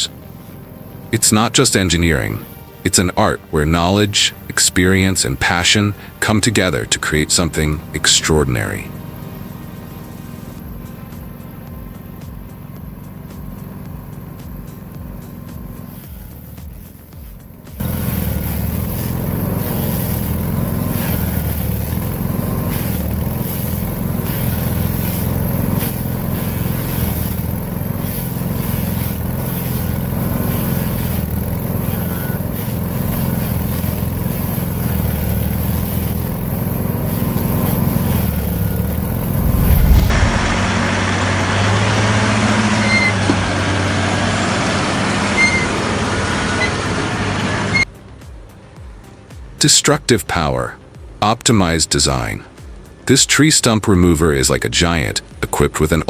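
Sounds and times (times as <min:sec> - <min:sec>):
machine running: 0:00.0 - 0:53.3
heavy machinery engine running: 0:00.0 - 0:56.0.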